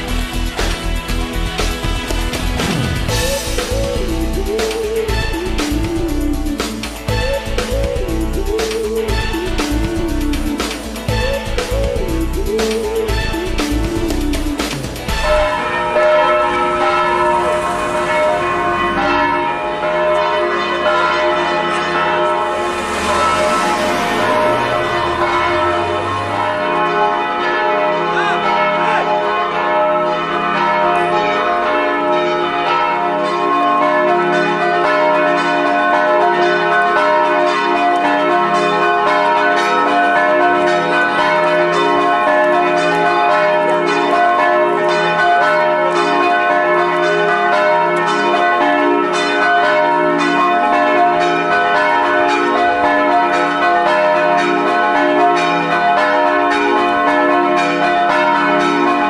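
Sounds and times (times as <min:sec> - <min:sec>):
church bells ringing: 0:03.0 - 0:59.0.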